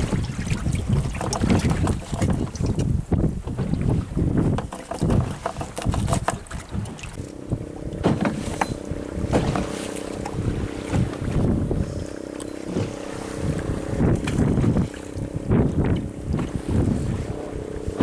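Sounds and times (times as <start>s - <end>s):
boat engine hum: 0.0s - 18.0s
water slapping: 0.0s - 18.0s
wind buffeting microphone: 0.0s - 18.0s.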